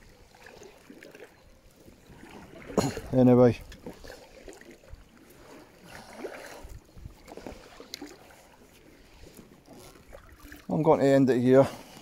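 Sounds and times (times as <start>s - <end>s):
small splashes: 0.0s - 10.7s
water lapping: 0.0s - 12.0s.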